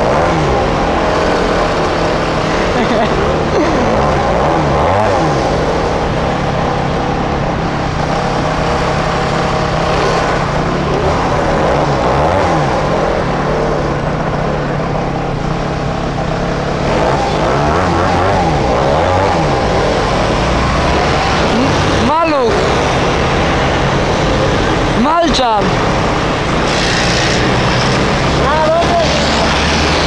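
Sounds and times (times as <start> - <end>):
two-stroke motorcycle engines: 0.0 - 30.0.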